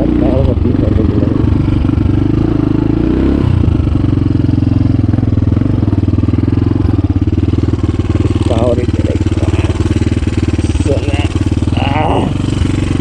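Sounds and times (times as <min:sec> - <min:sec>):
motorcycle exhaust pulses: 0:00.0 - 0:13.0.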